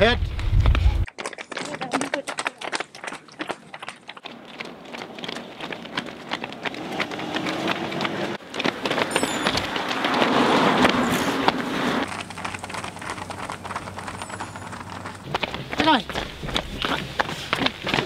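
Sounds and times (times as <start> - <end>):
runners' footfalls on asphalt: 0.2 - 18.0.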